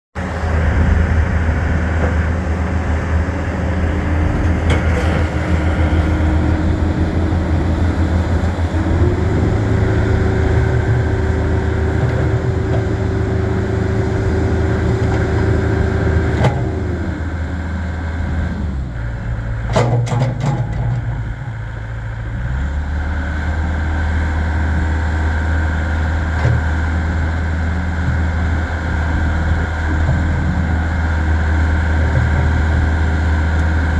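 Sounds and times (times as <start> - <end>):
excavator diesel engine running: 0.2 - 33.9
hydraulic whine: 0.2 - 33.9.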